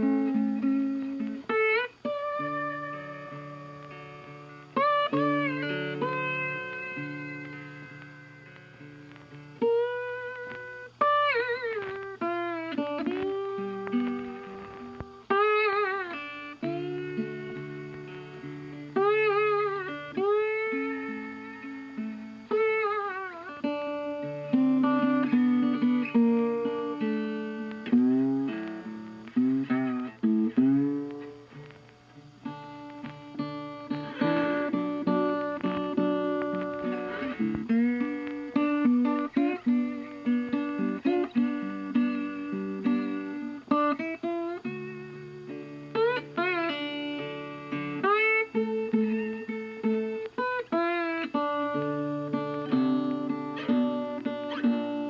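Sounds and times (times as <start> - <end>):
jazz guitar melody: 0.0 - 55.0.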